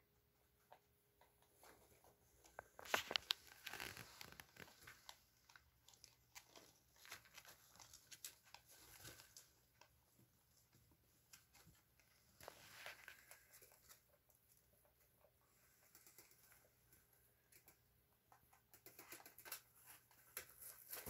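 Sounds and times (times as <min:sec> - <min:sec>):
rabbits crunching pellets: 0:00.3 - 0:21.0.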